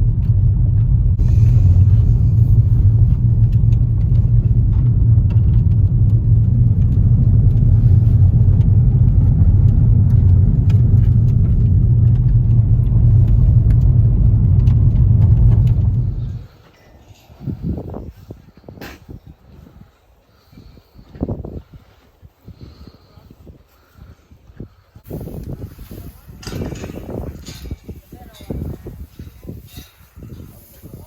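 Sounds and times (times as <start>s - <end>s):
vehicle rumble: 0.0s - 31.0s.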